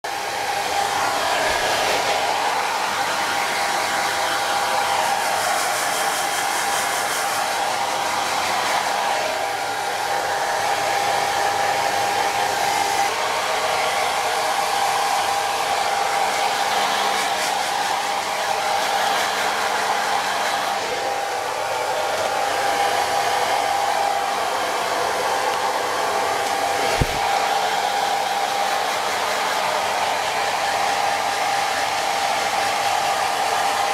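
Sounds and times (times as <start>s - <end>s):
hair dryer blowing: 0.0s - 33.9s.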